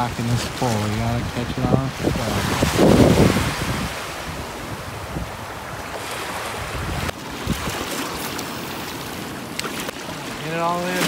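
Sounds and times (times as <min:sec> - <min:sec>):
wind blowing across microphone: 0:00.0 - 0:09.6
small waves washing ashore: 0:00.0 - 0:11.0.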